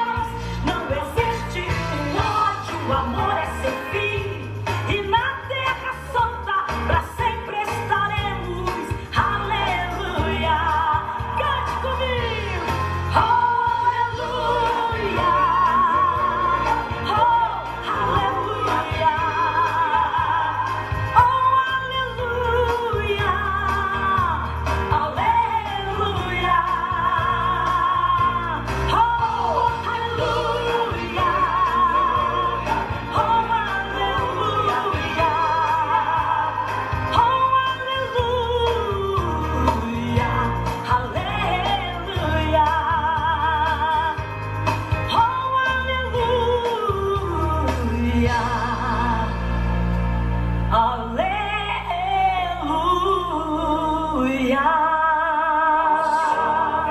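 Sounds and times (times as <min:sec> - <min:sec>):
person singing with vibrato: 0:00.0 - 0:49.9
instrumental accompaniment with bass: 0:00.0 - 0:56.9.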